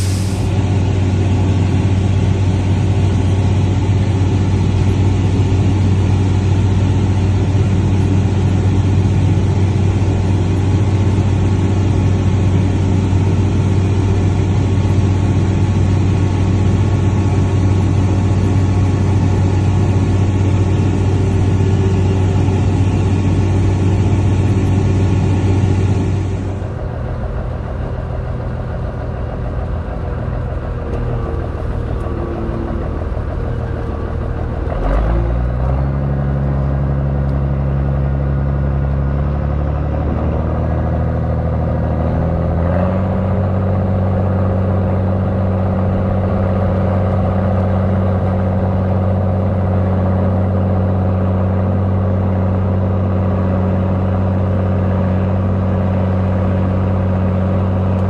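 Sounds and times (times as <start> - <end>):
farm machinery engine running: 0.0 - 58.0.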